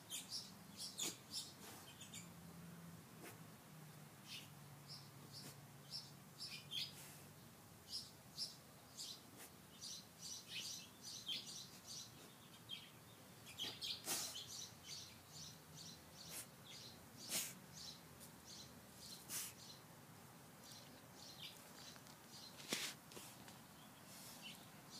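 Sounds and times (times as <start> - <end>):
small birds chirping: 0.0 - 2.6, 4.1 - 24.9.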